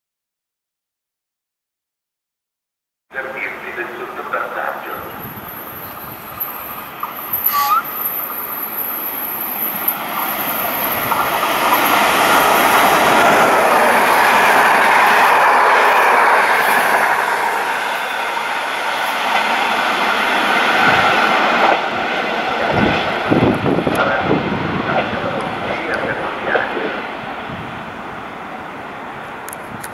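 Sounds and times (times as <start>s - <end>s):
train passing at speed: 3.2s - 29.9s.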